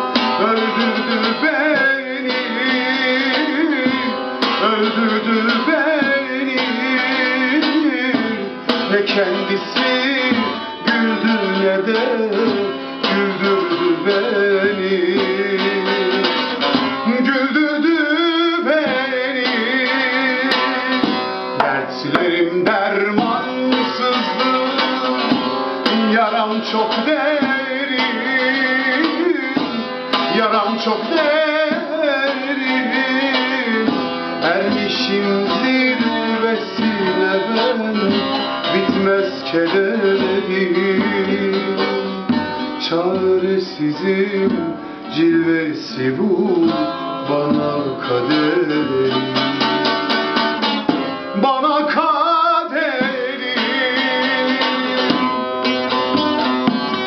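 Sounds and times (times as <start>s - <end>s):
long-necked lute strummed and plucked: 0.0s - 57.0s
man singing: 0.0s - 57.0s.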